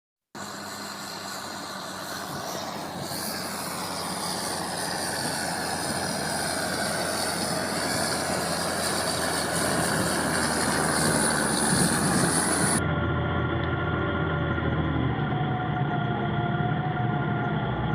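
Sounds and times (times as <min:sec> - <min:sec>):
tractor engine running: 0:00.4 - 0:17.9.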